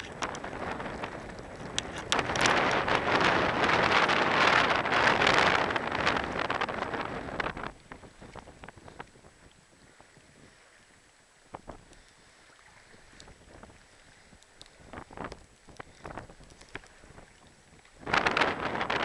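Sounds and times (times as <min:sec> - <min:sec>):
wind buffeting microphone: 0:00.0 - 0:10.7, 0:12.8 - 0:19.0
water lapping and splashing: 0:00.0 - 0:19.0.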